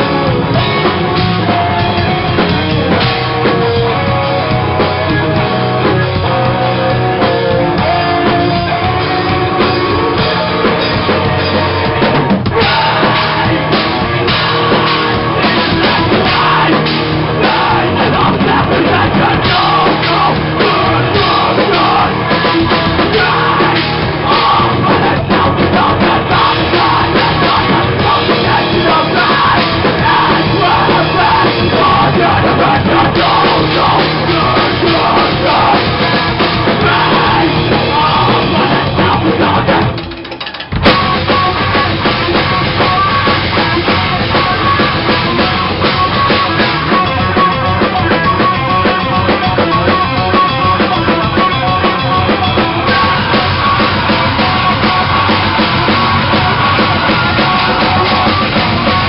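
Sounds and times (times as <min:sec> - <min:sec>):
dense drumming: 0:00.0 - 0:59.0
heavy rock band playing: 0:00.0 - 0:59.0.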